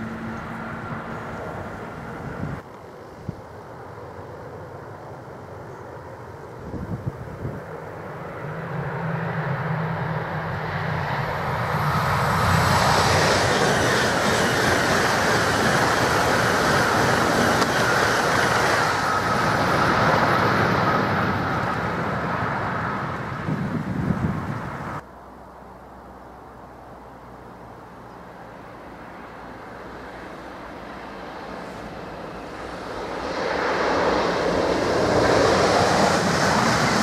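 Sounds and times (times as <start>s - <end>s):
electric train passing: 0.0s - 37.0s.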